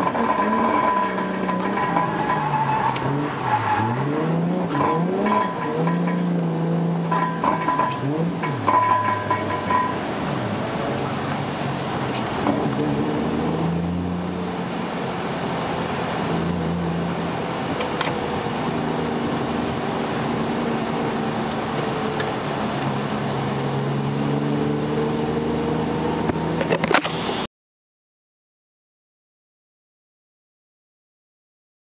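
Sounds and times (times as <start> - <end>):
car engine running: 0.0 - 27.4
road noise hiss: 0.0 - 27.5.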